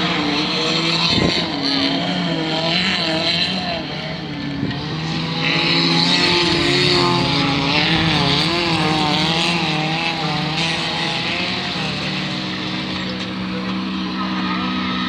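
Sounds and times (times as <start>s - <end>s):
car engines racing: 0.0s - 15.0s.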